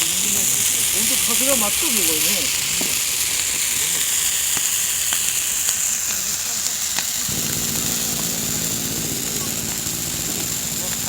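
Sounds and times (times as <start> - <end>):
wood fire hissing and crackling: 0.0 - 11.0.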